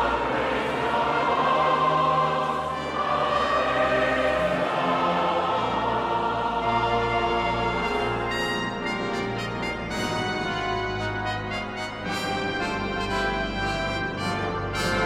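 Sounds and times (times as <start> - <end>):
choir singing a hymn: 0.0 - 15.0
instrumental accompaniment: 0.0 - 15.0.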